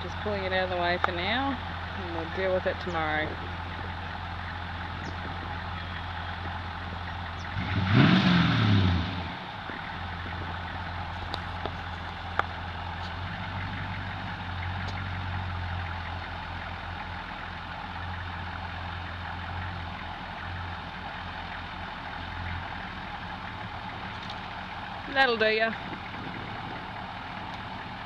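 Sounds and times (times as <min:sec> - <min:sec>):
truck engine idling and revving: 0:00.0 - 0:28.0.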